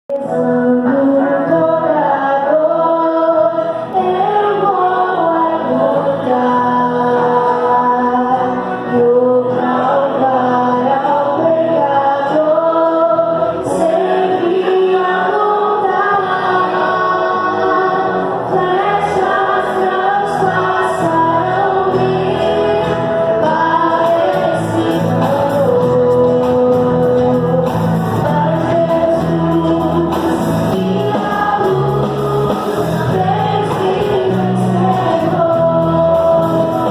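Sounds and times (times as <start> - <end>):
instrumental accompaniment: 0.1 - 36.9
voices singing: 0.1 - 36.9.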